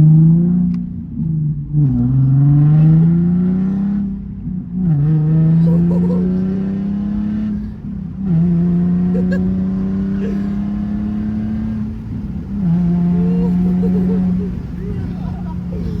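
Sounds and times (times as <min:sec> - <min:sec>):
car engine through loud exhaust: 0:00.0 - 0:16.0.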